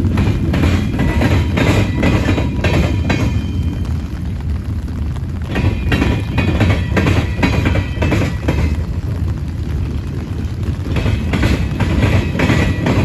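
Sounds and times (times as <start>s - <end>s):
wheel clicks on rail joints: 0.0s - 3.9s, 5.5s - 9.2s, 10.2s - 13.0s
freight train rumble: 0.0s - 13.0s.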